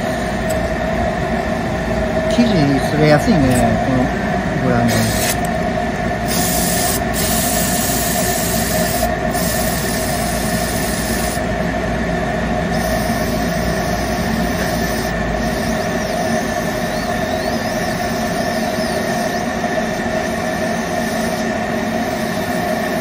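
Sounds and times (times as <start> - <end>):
machine motor hum: 0.0 - 23.0.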